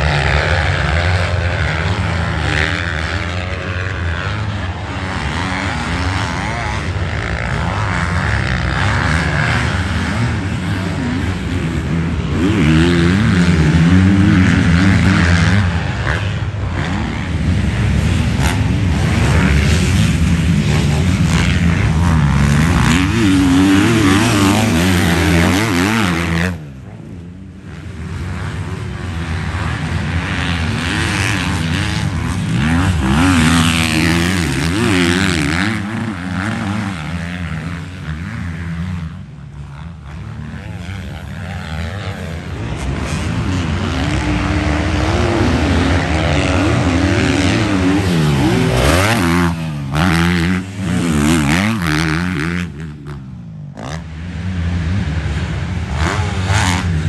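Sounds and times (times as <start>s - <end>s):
motocross engines revving: 0.0s - 57.0s.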